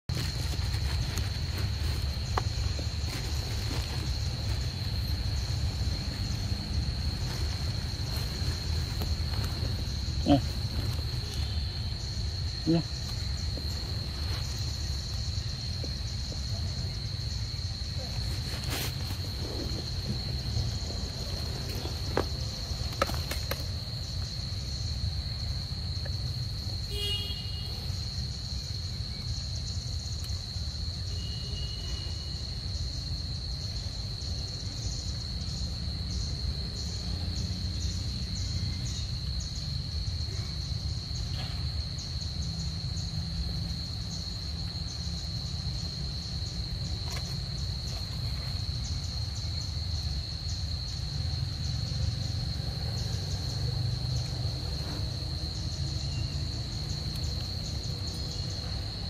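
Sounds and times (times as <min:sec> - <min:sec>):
pulsing insect chirr: 0:00.1 - 0:59.0.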